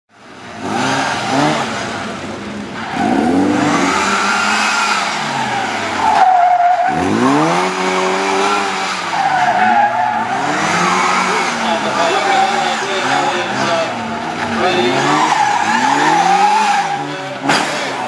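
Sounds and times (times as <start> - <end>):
car engine revving: 0.2 - 18.0
tyres squealing: 2.8 - 18.0.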